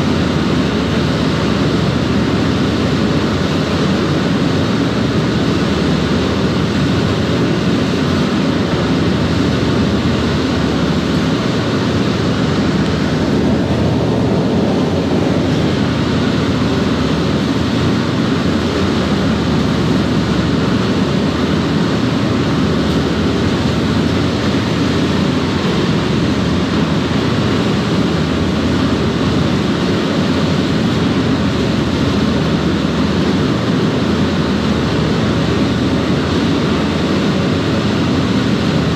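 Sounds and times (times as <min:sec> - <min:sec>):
ferry engines deep roar: 0:00.0 - 0:38.9
rushing jet wake: 0:00.0 - 0:38.9.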